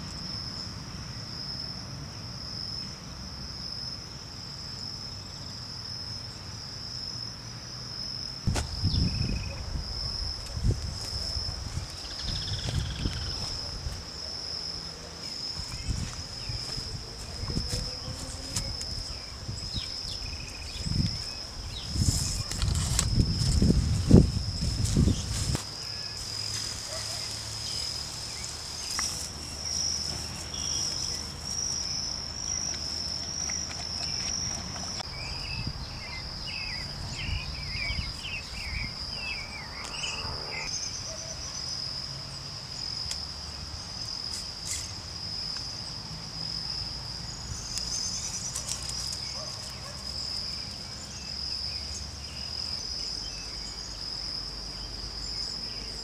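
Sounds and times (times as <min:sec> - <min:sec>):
insects chirring: 0:00.0 - 0:56.0
short insect chirps: 0:08.0 - 0:56.0.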